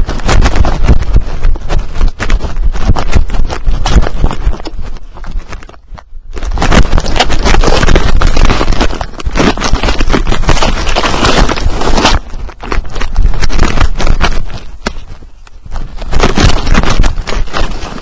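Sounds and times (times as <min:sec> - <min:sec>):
dry grass scraping and crackling: 0:00.0 - 0:18.0.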